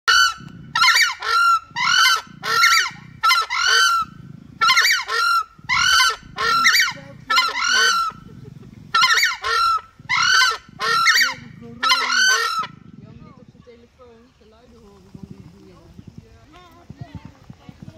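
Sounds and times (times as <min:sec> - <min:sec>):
birds screaming calls: 0:00.1 - 0:17.7.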